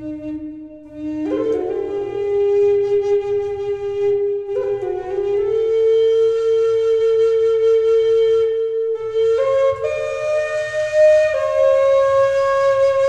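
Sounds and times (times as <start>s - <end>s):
flute playing slow melody: 0.0s - 13.0s.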